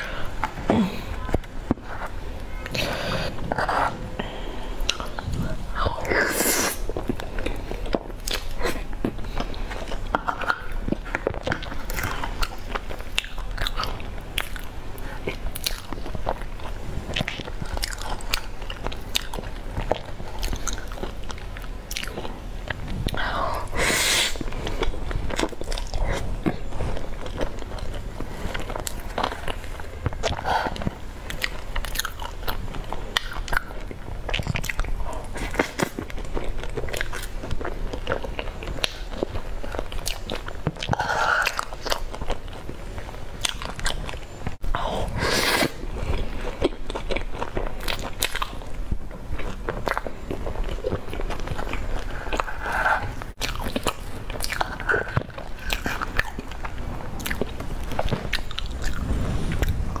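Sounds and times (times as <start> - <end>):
close chewing and crunching: 0.0 - 60.0.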